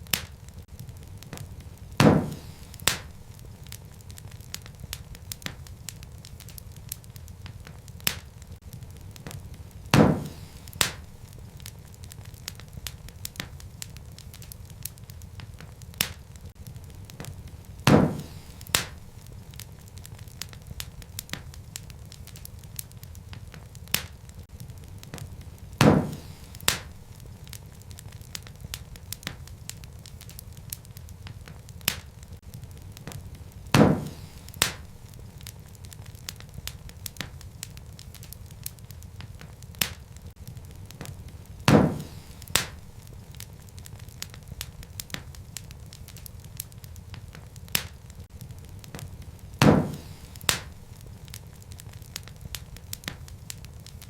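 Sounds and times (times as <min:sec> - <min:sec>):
loud sharp fire pops: 0:00.0 - 0:54.0
low fire rumble: 0:00.0 - 0:54.0
wood fire crackling: 0:00.0 - 0:54.0.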